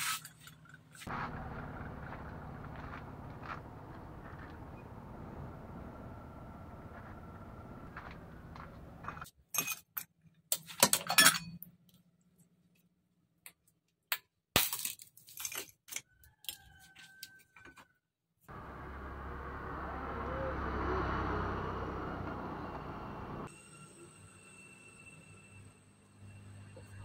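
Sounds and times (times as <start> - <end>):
outdoor background noise: 0.0 - 17.9, 18.5 - 27.0.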